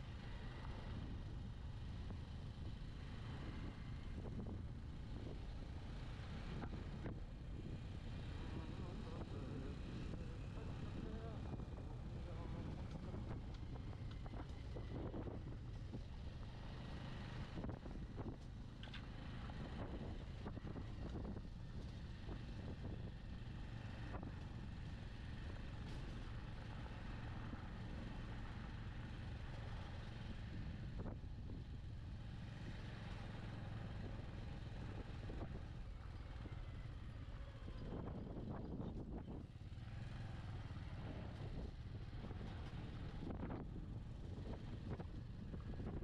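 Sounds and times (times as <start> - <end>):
motorcycle engine humming: 0.0 - 46.0
road noise: 0.0 - 46.0.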